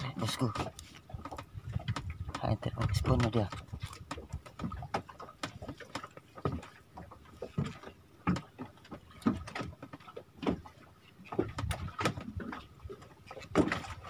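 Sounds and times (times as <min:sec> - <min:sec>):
faint sea noise: 0:00.0 - 0:14.0
waves slapping against boat hull: 0:00.0 - 0:14.0.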